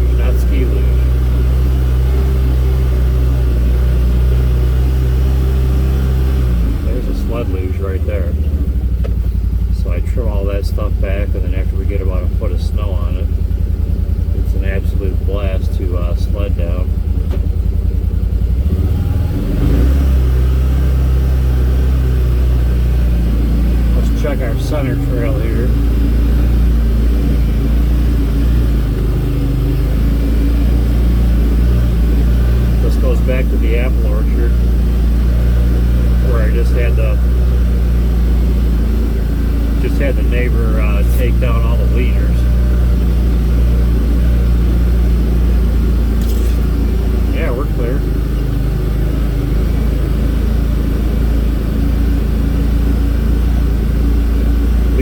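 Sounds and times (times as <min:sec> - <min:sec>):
vehicle engine humming: 0:00.0 - 0:55.0.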